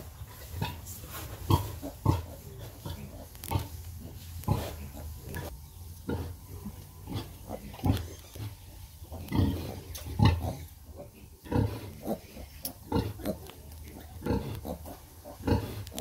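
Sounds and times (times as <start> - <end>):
pigs grunting: 1.4 - 16.0.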